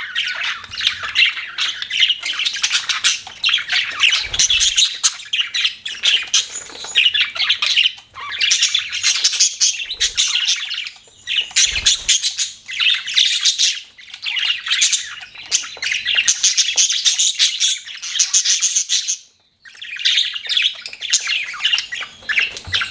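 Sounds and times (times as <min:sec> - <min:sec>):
budgerigars chirping: 0:00.0 - 0:22.9.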